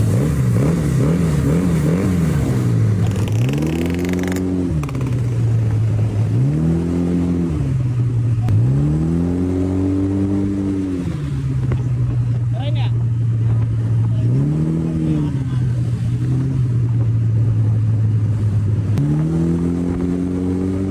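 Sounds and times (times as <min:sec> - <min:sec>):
engine idling and revving: 0:00.0 - 0:20.9.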